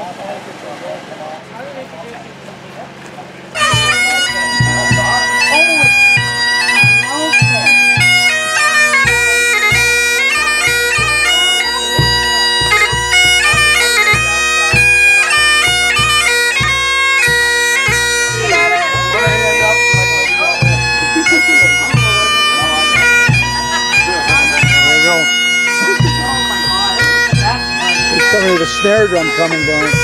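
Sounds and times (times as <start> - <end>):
bagpipes playing: 3.5 - 30.0
bass drum beats: 3.6 - 30.0.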